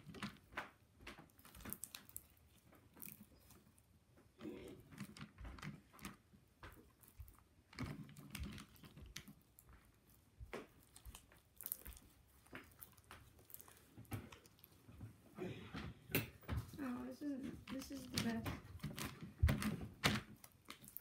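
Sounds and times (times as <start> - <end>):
slime clicking and crackling: 0.0 - 15.0, 17.0 - 21.0.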